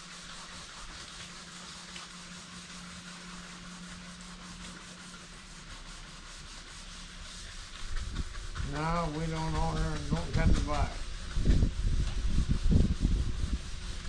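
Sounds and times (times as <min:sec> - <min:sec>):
low steady hum: 0:00.0 - 0:14.0
sandpaper rubbing on surface: 0:00.0 - 0:14.0.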